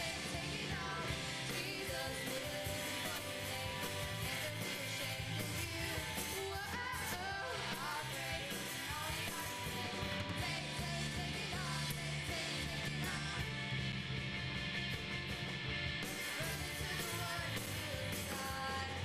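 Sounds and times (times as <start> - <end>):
person singing: 0.0 - 13.6, 16.1 - 19.0
rock band playing: 0.0 - 19.0.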